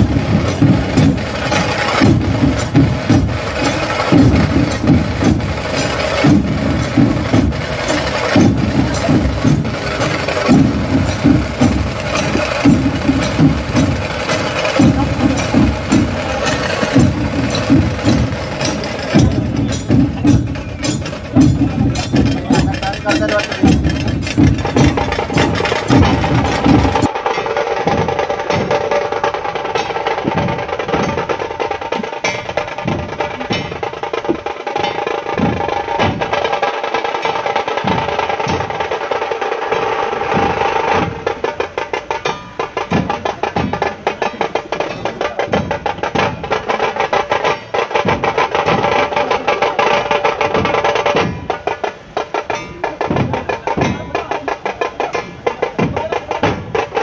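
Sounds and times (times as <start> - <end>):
fast steady drumming: 0.0 - 57.0.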